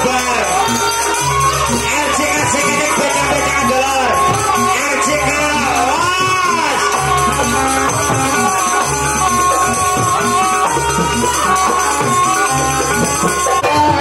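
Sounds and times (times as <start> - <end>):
drums and gongs pulsing: 0.0 - 14.0
ornamented melody line: 0.0 - 14.0.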